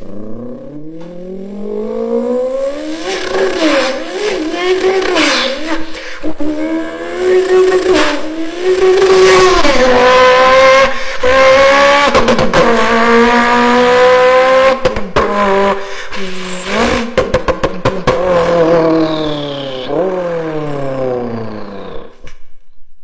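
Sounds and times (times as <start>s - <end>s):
person imitating car engine: 0.0s - 22.2s.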